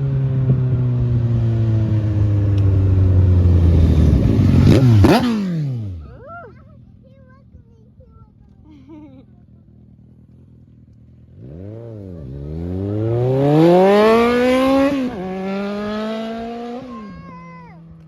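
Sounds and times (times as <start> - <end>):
motorcycle engine revving: 0.0 - 7.0, 9.4 - 18.0.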